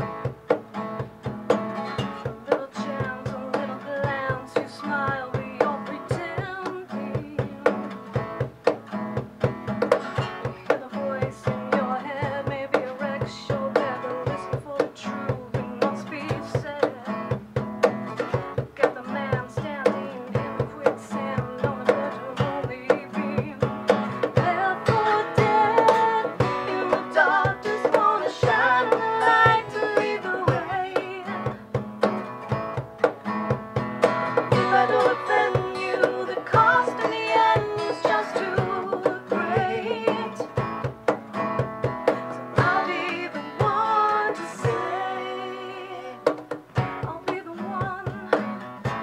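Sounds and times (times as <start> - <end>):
cajon slapped by hand: 0.0 - 42.8, 46.2 - 49.0
acoustic guitar strumming: 0.0 - 49.0
woman singing: 2.0 - 8.8, 9.9 - 17.4, 18.1 - 31.8, 34.3 - 40.9, 41.6 - 49.0.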